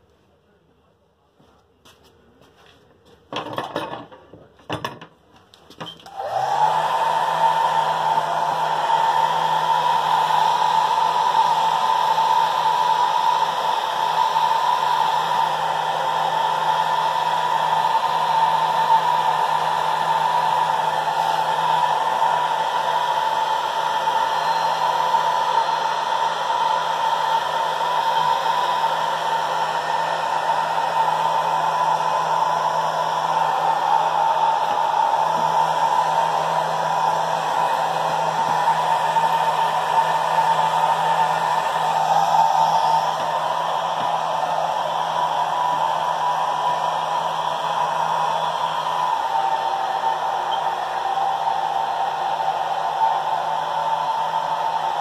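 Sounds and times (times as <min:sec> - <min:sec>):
hair dryer running: 0:06.1 - 0:55.0.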